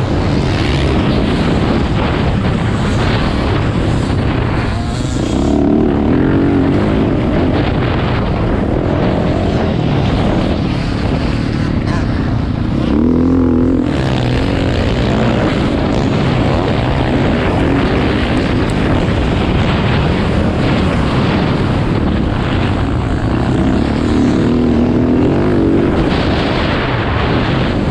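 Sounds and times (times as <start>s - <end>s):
loud rush of noise: 0.0s - 27.9s
motocross engines revving: 0.0s - 27.9s.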